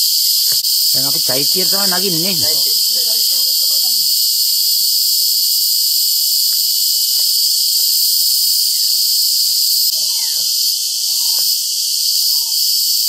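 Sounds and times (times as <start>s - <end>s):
insects chorus shrilling: 0.0s - 13.0s.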